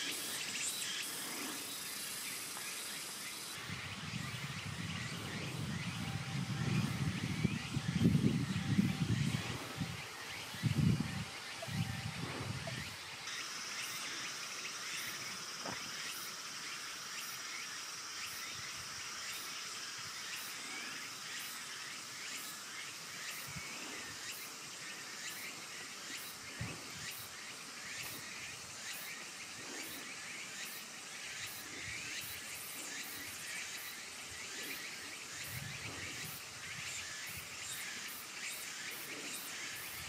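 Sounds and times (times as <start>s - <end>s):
high-pitched insect drone: 0.0s - 40.0s.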